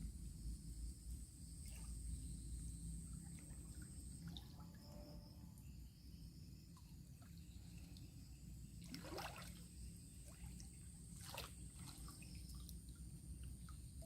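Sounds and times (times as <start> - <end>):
river water trickling: 1.6 - 5.0, 5.6 - 14.0.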